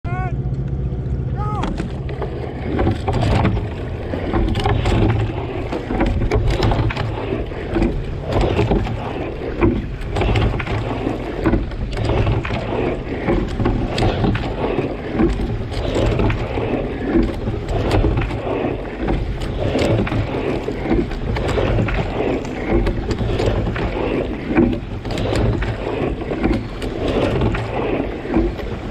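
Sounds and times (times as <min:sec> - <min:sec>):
oars pulling through water: 0:00.7 - 0:28.9
water splashing and rushing: 0:01.2 - 0:28.9.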